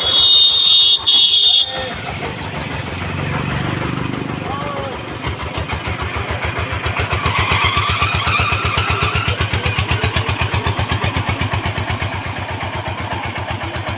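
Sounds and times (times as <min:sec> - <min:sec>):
engine chugging: 0:00.0 - 0:13.9.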